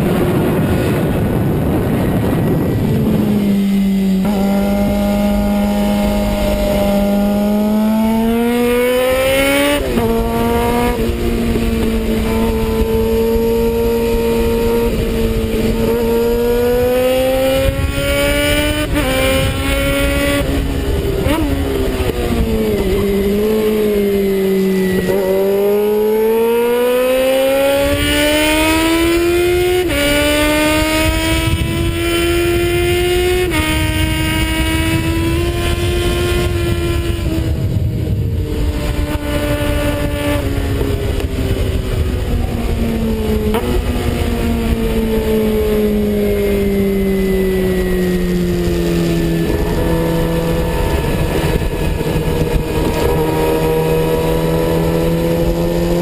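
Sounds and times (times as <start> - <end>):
motorcycle engine at speed: 0.0 - 56.0
wind rushing over microphone: 0.0 - 56.0.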